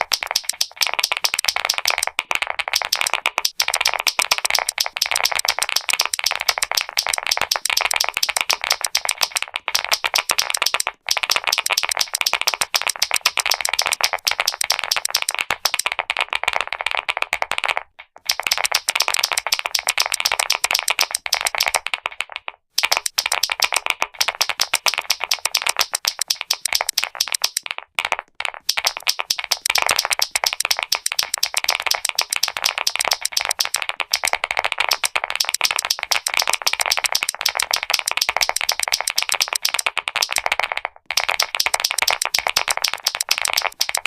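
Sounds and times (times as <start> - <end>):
mechanical keyboard clicking: 0.0 - 27.8, 28.4 - 44.0.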